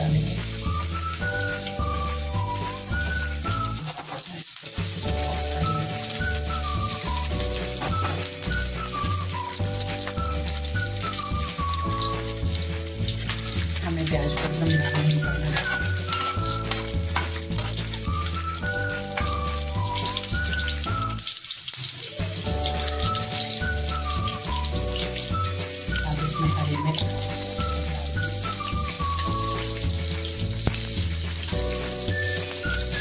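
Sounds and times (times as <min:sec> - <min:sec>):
background music with walking bass: 0:00.0 - 0:04.0, 0:04.7 - 0:21.4, 0:22.2 - 0:33.0
onions sizzling in oil: 0:00.0 - 0:33.0.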